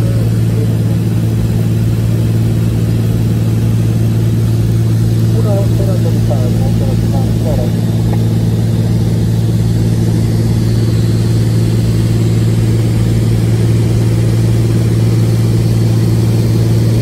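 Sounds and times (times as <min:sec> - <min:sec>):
airplane engine drone in cabin: 0:00.0 - 0:17.0.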